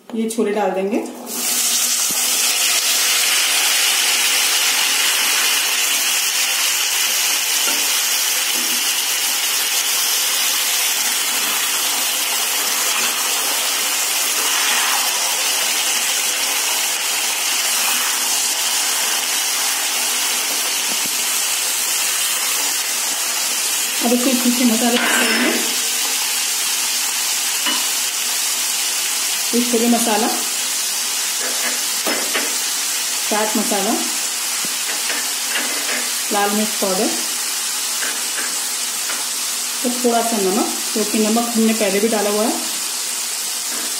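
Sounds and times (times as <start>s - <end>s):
chickpeas sizzling in oil: 1.2s - 43.9s.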